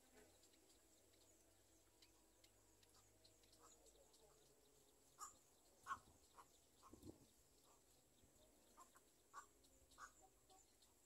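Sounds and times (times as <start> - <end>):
faint bird calls: 0.0 - 11.0.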